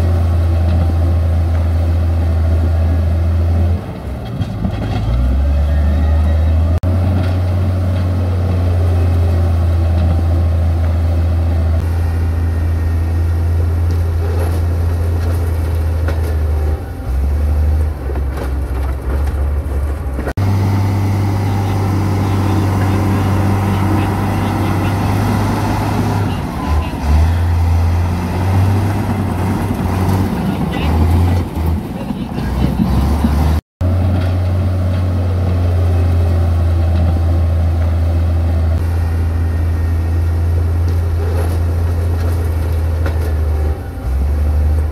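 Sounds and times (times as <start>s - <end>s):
heavy diesel engine rumbling: 0.0s - 44.9s.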